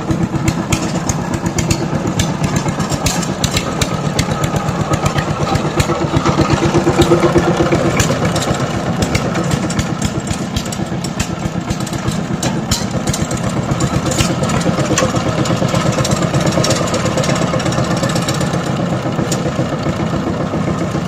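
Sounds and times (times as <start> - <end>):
power tiller engine running: 0.0 - 21.0.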